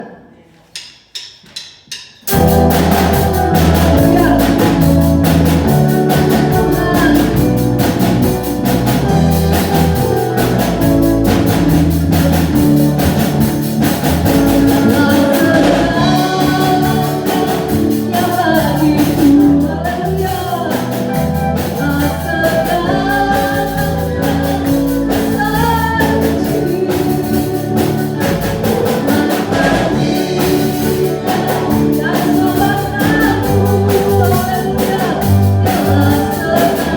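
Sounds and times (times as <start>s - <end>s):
drums: 0.0s - 36.9s
band playing worship song: 2.3s - 36.9s
guitar: 2.3s - 36.9s
person singing: 2.3s - 36.9s.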